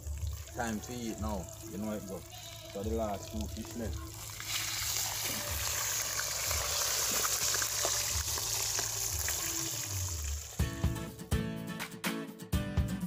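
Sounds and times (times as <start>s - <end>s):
fish sizzling in hot oil: 0.0s - 10.7s.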